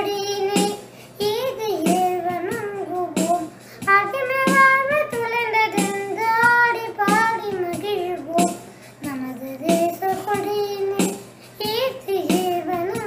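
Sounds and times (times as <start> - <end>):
girl singing: 0.0 - 13.0
percussion beat: 0.0 - 13.0.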